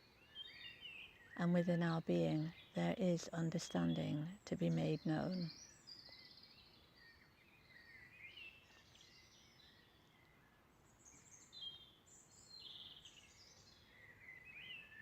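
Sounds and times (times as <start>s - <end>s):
background hiss: 0.0s - 15.0s
birds chirping and trilling: 0.0s - 15.0s.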